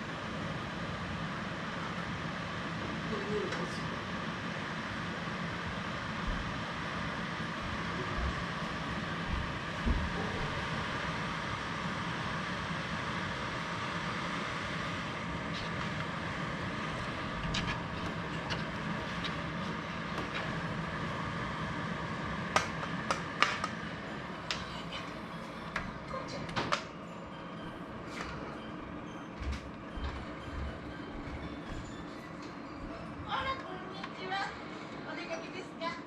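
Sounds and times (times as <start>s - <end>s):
air purifier fan humming: 0.0s - 36.0s.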